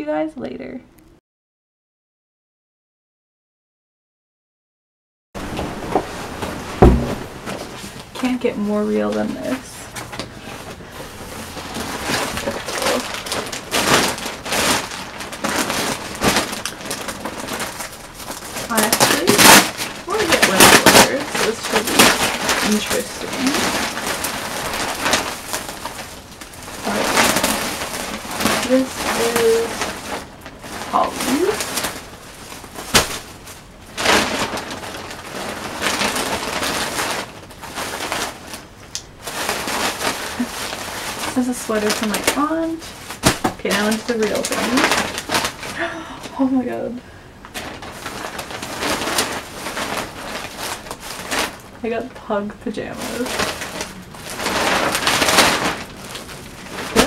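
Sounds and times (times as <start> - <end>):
packaging rustling and crinkling: 5.4 - 57.0.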